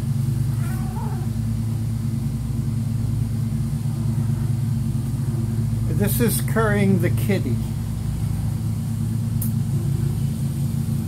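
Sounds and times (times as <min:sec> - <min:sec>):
steady low machine hum: 0:00.0 - 0:11.0.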